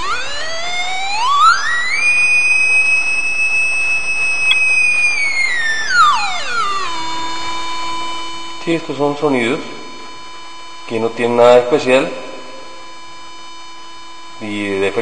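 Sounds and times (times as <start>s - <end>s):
buzzy electronic tone: 0.0s - 15.0s.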